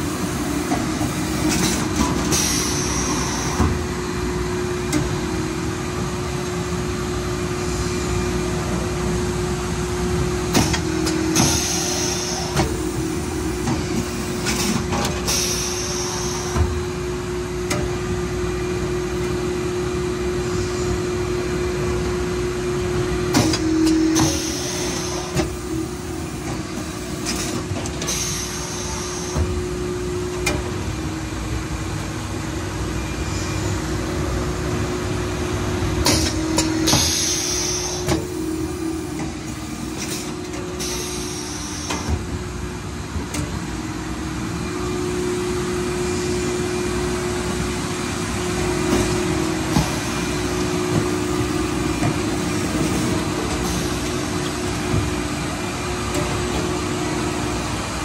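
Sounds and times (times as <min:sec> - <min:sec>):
packaging machine humming: 0:00.0 - 0:06.9, 0:08.3 - 0:20.2, 0:22.7 - 0:31.7, 0:35.6 - 0:58.0.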